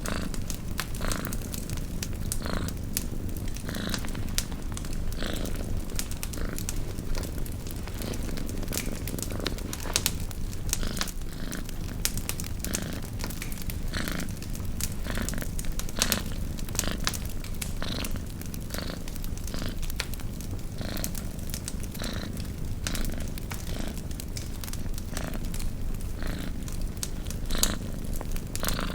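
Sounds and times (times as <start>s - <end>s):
campfire crackling and popping: 0.0s - 28.9s
cat purring: 0.0s - 28.9s.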